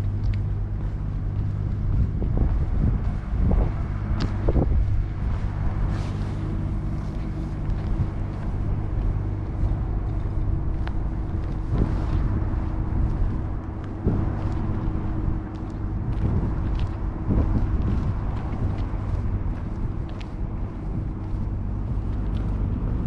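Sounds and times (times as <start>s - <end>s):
heavy engines idling: 0.0s - 23.0s.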